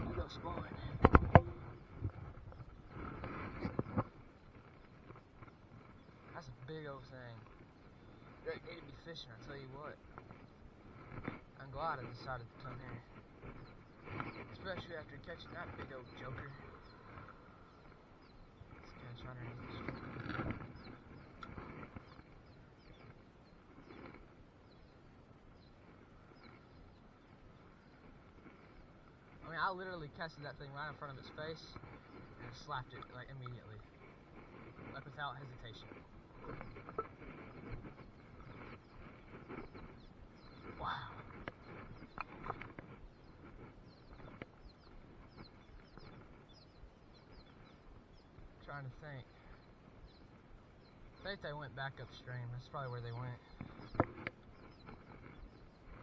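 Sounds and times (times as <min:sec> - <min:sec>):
footsteps on loose rocks: 0:00.0 - 0:51.2, 0:52.1 - 0:56.0
small birds chirping: 0:00.0 - 0:56.0.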